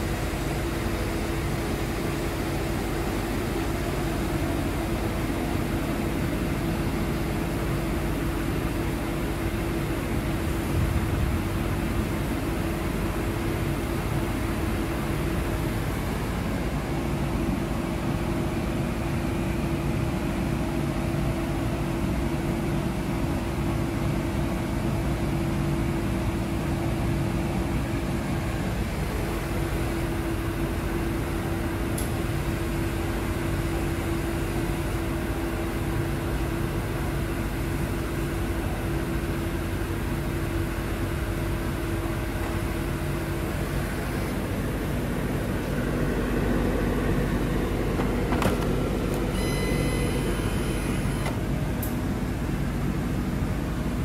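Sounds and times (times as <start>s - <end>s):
machine hum with low tone: 0.0s - 54.0s.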